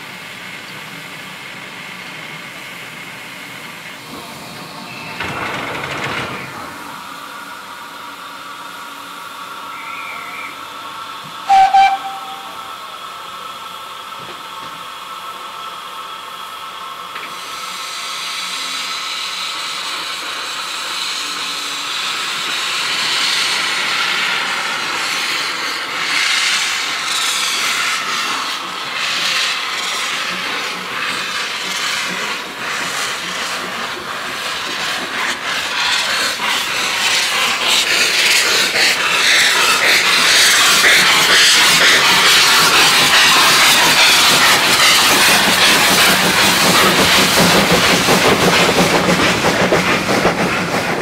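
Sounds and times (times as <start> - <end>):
steam hissing: 6.7 - 51.0
steam locomotive exhaust beats: 6.8 - 51.0.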